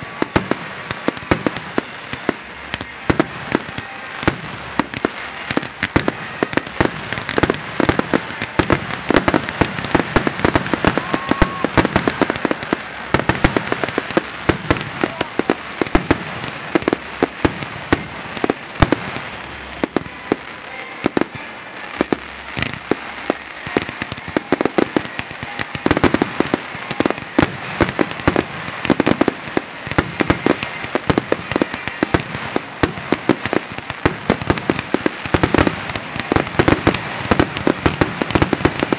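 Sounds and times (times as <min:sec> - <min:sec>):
fireworks bangs and crackles: 0:00.0 - 0:38.9
loud firework reports: 0:00.0 - 0:38.9.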